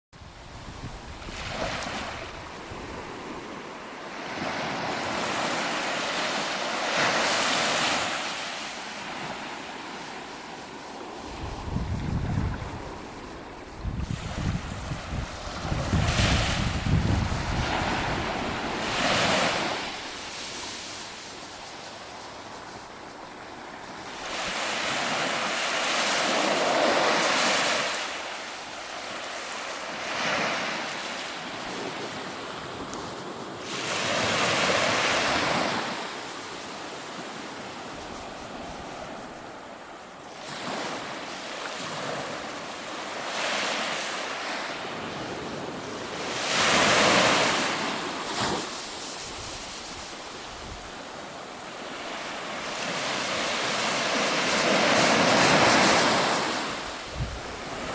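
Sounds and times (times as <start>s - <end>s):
sea waves breaking on a beach: 0.2s - 57.9s.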